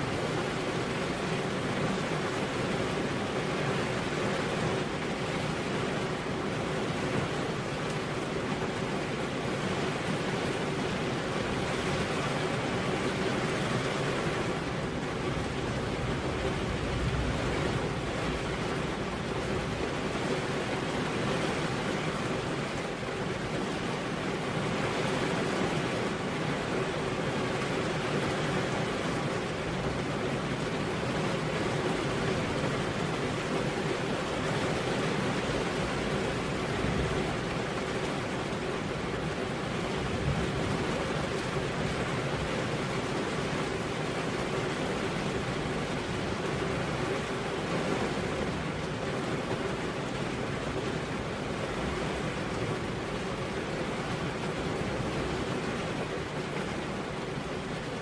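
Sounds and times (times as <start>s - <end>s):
heavy rain on a road: 0.0s - 58.0s.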